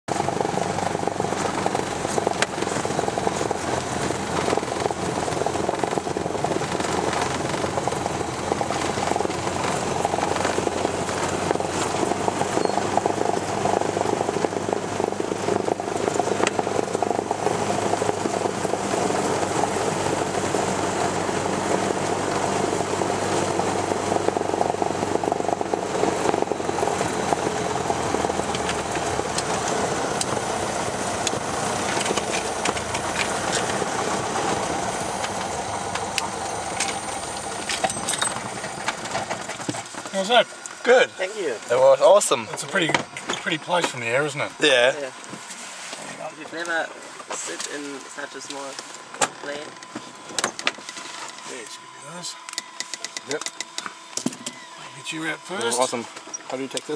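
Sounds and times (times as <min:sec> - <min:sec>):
airplane engine and propeller: 0:00.1 - 0:56.9
plane rolling on grass airstrip: 0:00.1 - 0:56.9.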